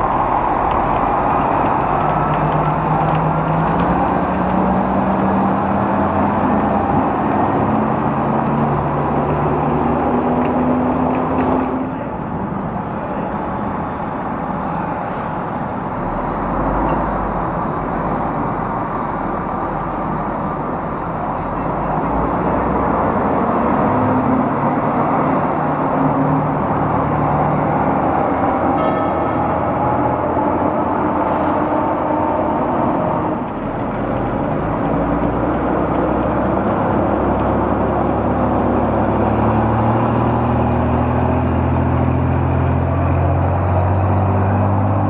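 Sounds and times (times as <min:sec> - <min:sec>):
city traffic engine and road noise: 0:00.0 - 0:45.0.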